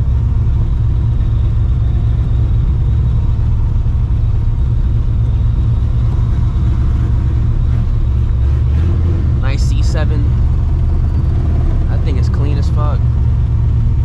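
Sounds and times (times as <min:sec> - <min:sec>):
low car exhaust rumble: 0:00.0 - 0:14.0.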